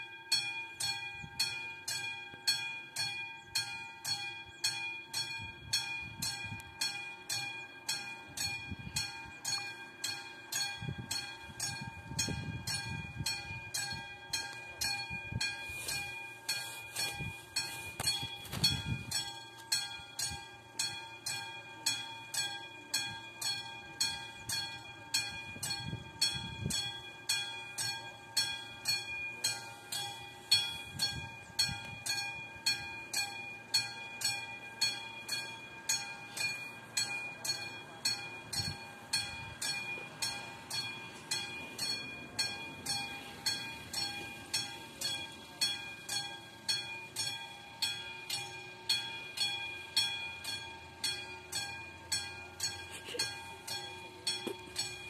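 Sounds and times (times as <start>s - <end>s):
level crossing warning bell ringing: 0.0s - 55.0s.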